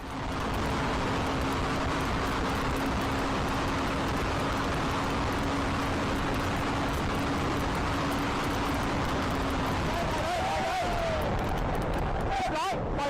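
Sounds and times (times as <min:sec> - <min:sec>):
car road and engine noise: 0:00.0 - 0:13.0
constant low hum: 0:00.0 - 0:13.0.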